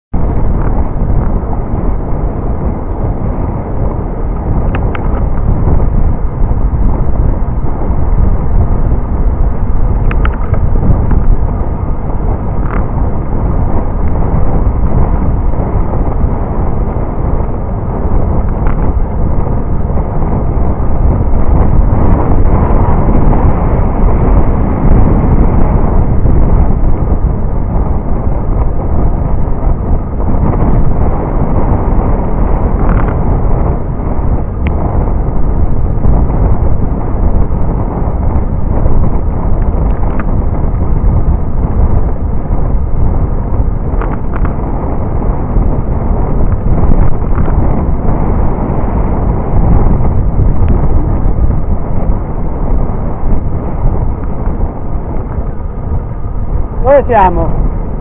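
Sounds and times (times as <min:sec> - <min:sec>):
road rumble: 0:00.1 - 0:58.0
wind buffeting microphone: 0:00.1 - 0:58.0.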